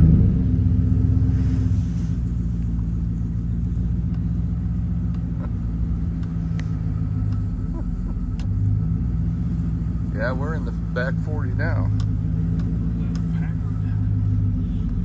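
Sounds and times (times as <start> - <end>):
vehicle engine low rumble: 0.0 - 15.0
faint rattles: 0.8 - 15.0.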